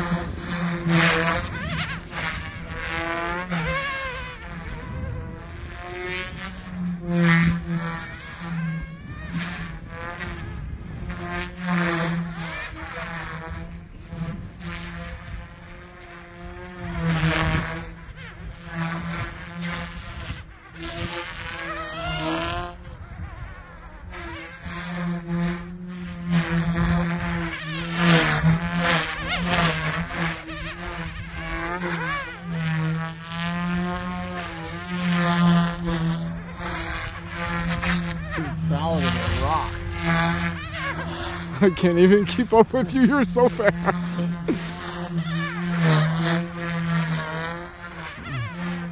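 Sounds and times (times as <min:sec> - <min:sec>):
rc helicopter buzzing whine: 0:00.0 - 0:48.9.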